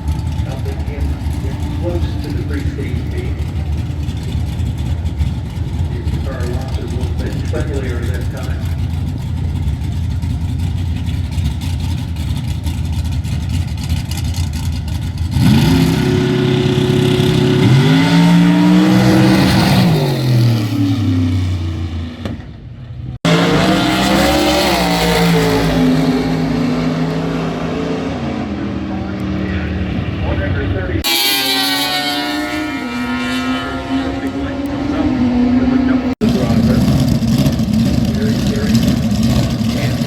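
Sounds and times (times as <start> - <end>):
drag racing car engine: 0.0 - 40.0.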